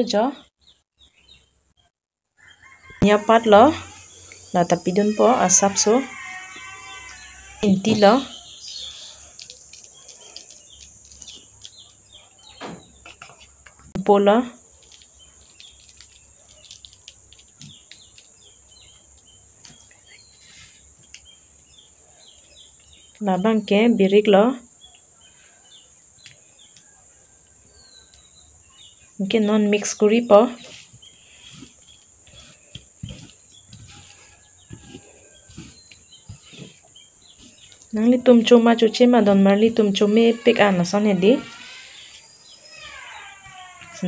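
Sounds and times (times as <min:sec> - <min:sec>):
faint chirping: 0:01.2 - 0:13.9, 0:14.6 - 0:44.0
insects droning: 0:02.5 - 0:13.8, 0:14.5 - 0:44.0.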